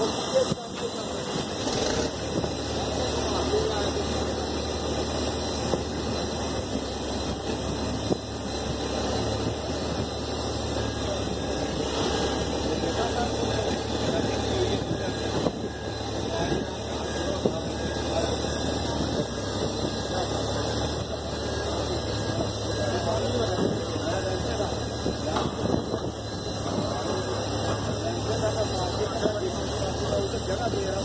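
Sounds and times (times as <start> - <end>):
mechanical hum and hiss: 0.0 - 31.0.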